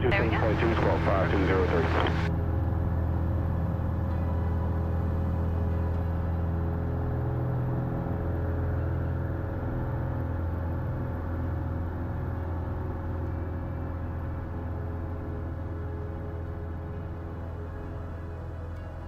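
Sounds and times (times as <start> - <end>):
airplane engine and propeller drone: 0.0 - 19.0.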